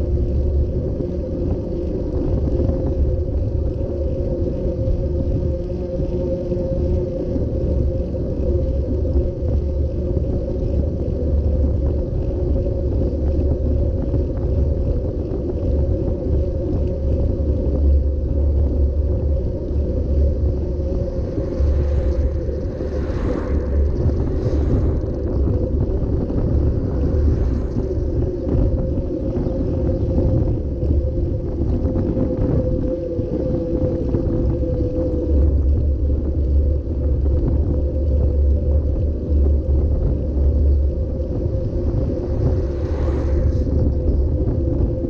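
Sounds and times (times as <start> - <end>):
constant hum: 0.0 - 45.0
road rumble: 0.0 - 45.0
wind buffeting: 0.0 - 45.0.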